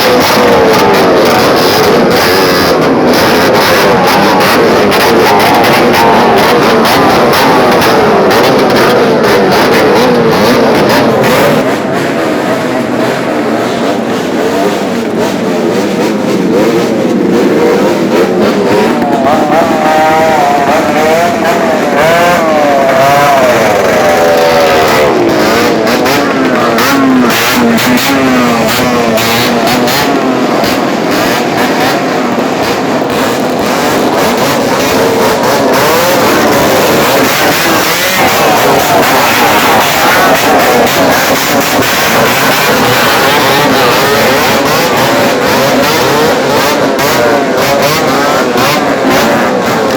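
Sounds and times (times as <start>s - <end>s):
motorcycles revving: 0.0s - 49.9s.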